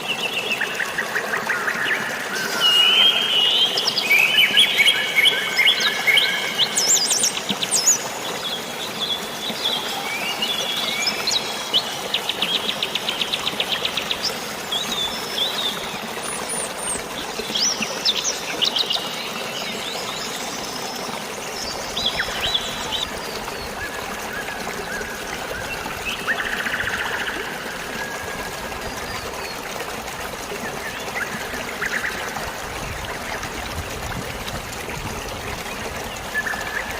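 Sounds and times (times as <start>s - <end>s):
flowing water: 0.0s - 36.9s.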